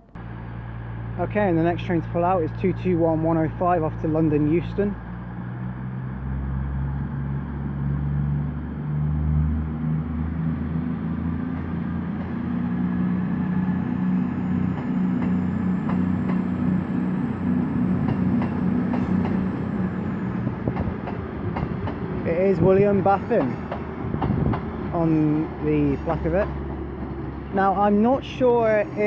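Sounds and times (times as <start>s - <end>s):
diesel train engine drone: 0.0s - 29.0s.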